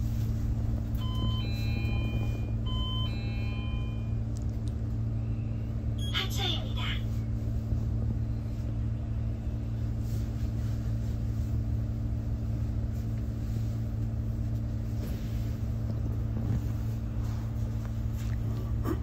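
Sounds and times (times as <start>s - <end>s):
bus engine humming: 0.0s - 19.0s.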